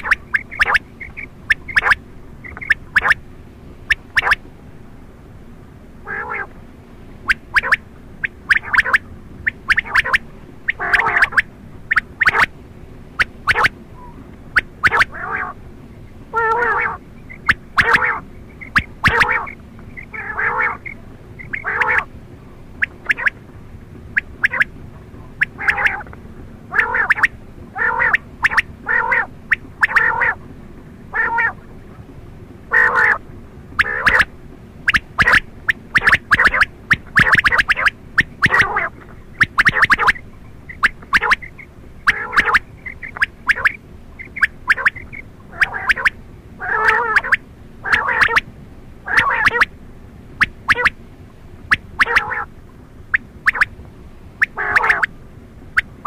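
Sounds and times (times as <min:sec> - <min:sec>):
quail calling: 0:00.0 - 0:04.8, 0:06.0 - 0:30.5, 0:31.1 - 0:32.1, 0:32.7 - 0:49.8, 0:50.4 - 0:51.0, 0:51.6 - 0:53.8, 0:54.4 - 0:56.0.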